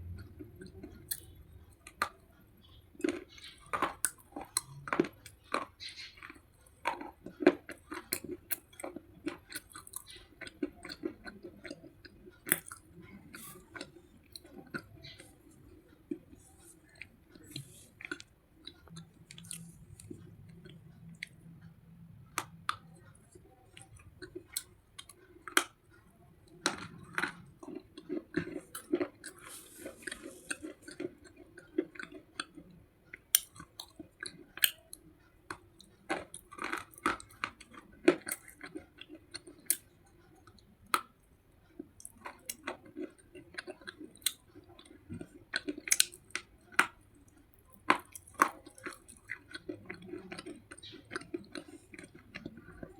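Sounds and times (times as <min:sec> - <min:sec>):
chewing and crunching pencils: 0:00.0 - 0:52.9.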